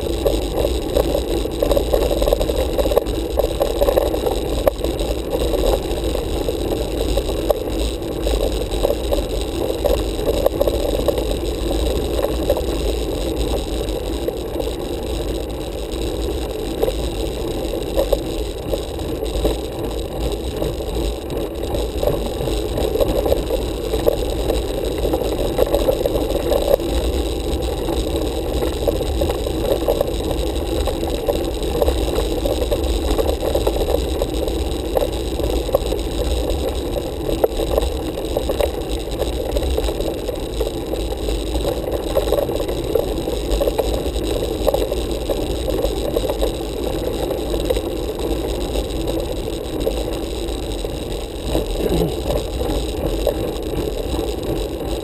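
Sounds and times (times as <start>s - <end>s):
bicycle rolling on asphalt: 0.0s - 55.0s.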